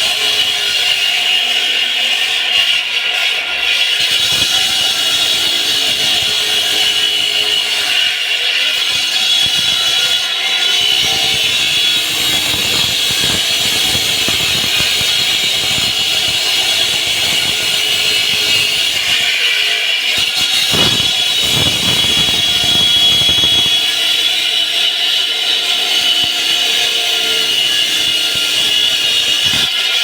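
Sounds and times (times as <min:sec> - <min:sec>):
concrete saw high-pitched whine: 0:00.0 - 0:30.0.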